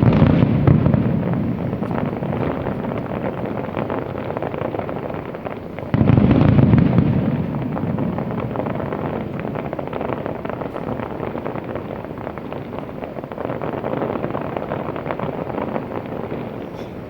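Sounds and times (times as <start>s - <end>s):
deep firework boom: 0.0s - 17.0s
fireworks crackling and popping: 0.0s - 17.0s.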